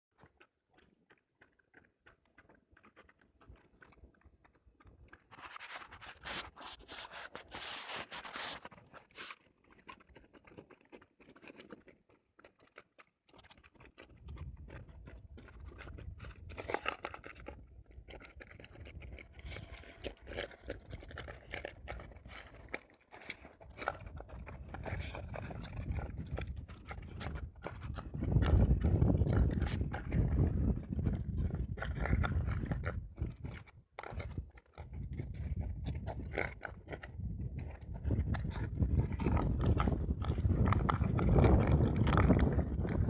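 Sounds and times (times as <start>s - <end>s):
dog gnawing and crunching: 0.2s - 43.0s.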